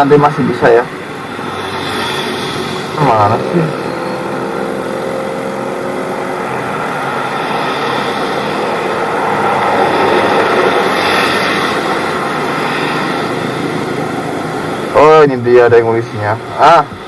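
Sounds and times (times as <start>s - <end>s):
busy road traffic: 0.0s - 17.0s
vehicle passing by: 0.6s - 17.0s.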